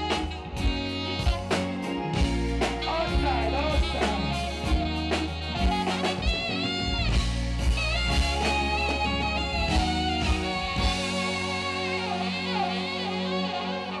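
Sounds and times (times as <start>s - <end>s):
reggae band playing: 0.0s - 14.0s
saxophone melody: 0.0s - 14.0s.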